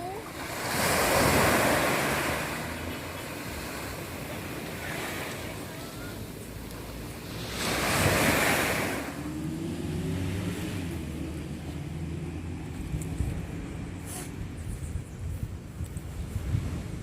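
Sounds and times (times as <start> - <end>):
ocean surf: 0.0 - 14.6
wind: 0.0 - 17.0.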